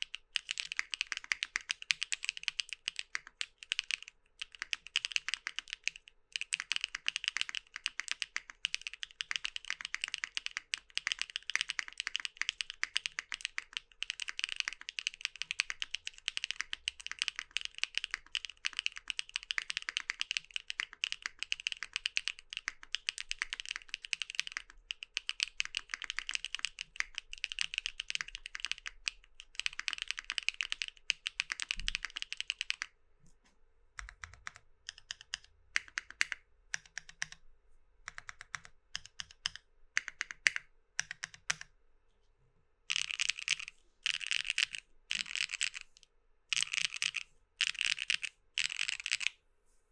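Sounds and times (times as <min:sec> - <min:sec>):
fast typing on mechanical keyboard: 0:00.0 - 0:32.9, 0:34.0 - 0:37.4, 0:38.1 - 0:41.7, 0:42.9 - 0:49.3.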